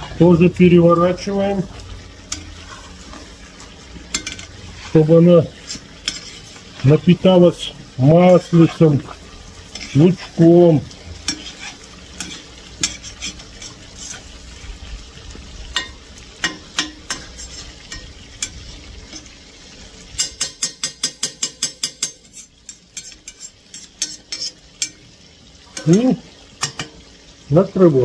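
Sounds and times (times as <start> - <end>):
metal skimmer scraping and knocking pot: 0.0 - 7.4, 8.1 - 14.3, 15.7 - 19.4, 20.0 - 25.0, 25.7 - 27.0
food sizzling in hot oil: 0.0 - 28.0.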